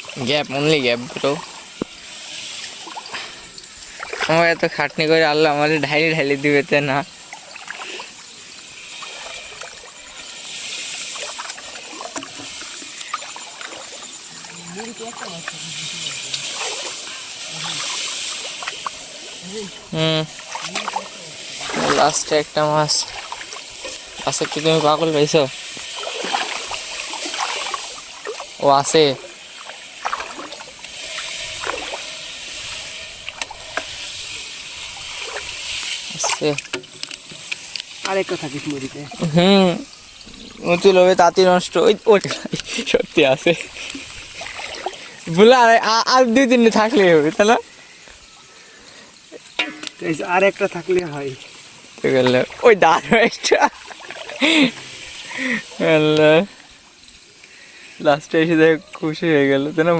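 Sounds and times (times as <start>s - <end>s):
hissing rush: 0.0s - 59.9s
water trickling and sloshing: 0.0s - 59.9s.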